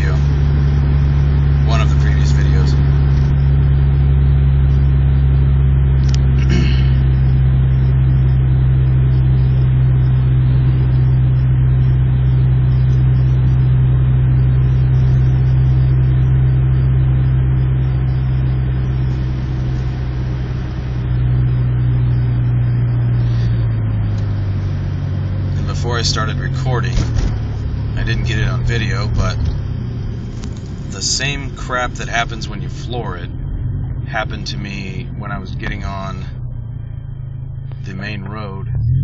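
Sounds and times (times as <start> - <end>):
car engine and road noise drone: 0.0 - 39.0.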